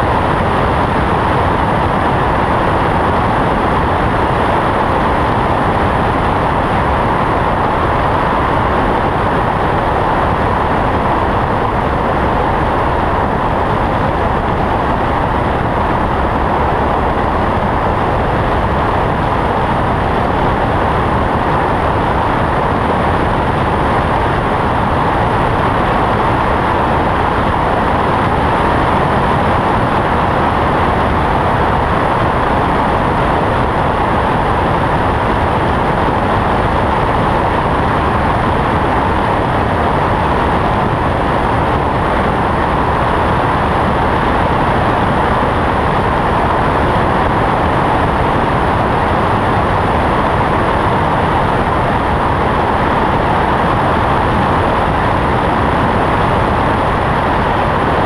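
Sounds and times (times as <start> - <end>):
propeller engine: 0.0 - 58.0
rushing airflow: 0.0 - 58.0.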